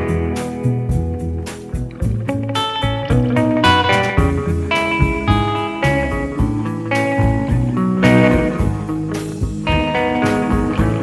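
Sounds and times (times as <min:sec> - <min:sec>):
bass notes: 0:00.0 - 0:11.0
drum beat: 0:00.0 - 0:11.0
guitar: 0:00.0 - 0:11.0.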